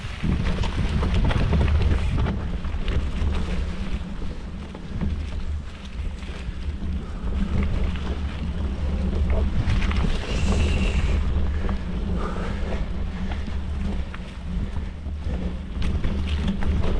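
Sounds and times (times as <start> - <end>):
bike tires rumbling on dirt: 0.0 - 16.9
wind buffeting microphone: 0.0 - 16.9.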